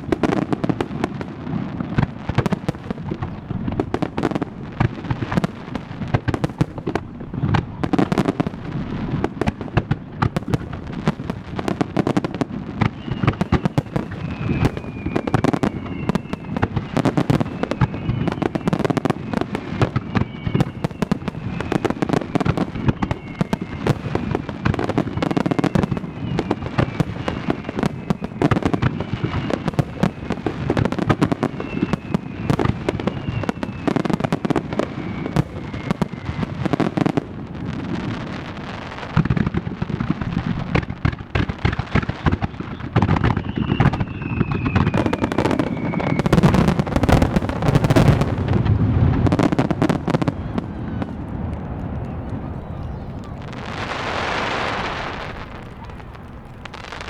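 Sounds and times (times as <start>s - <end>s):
fireworks falling whistles: 0.0s - 57.0s.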